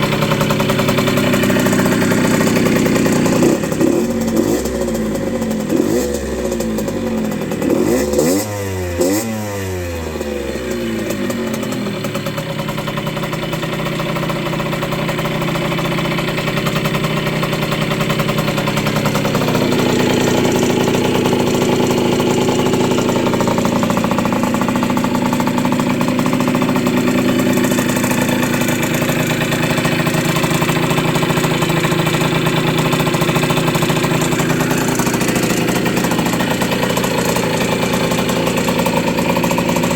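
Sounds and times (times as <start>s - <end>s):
minibike engine revving and idling: 0.0s - 39.9s.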